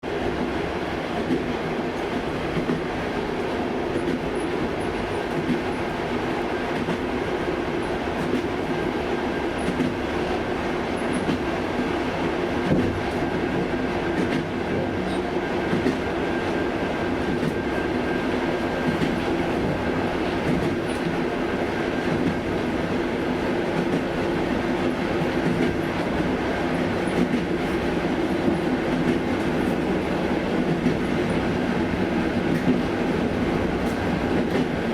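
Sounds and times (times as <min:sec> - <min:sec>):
train rumbling: 0:00.0 - 0:34.9.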